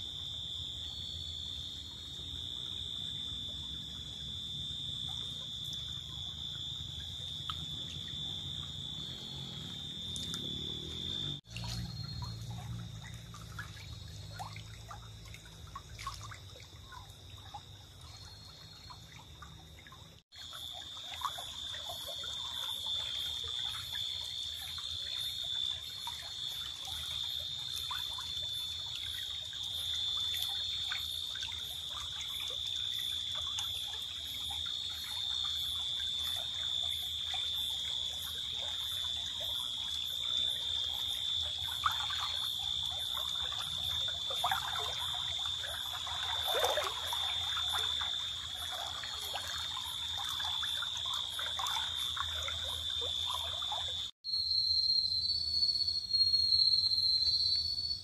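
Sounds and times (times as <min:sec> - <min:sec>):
stream trickling over stones: 0:01.7 - 0:54.2.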